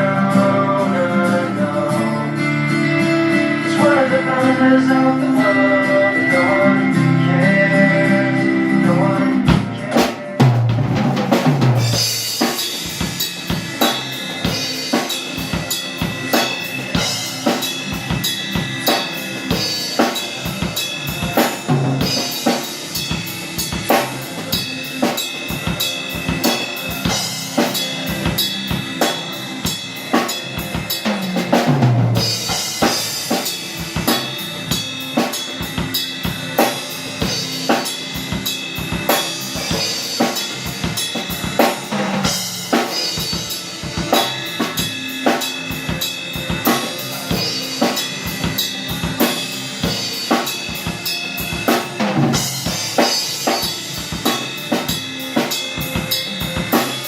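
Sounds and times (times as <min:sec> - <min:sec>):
rock band music: 0:00.0 - 0:57.0
rock drum kit groove: 0:00.0 - 0:57.0.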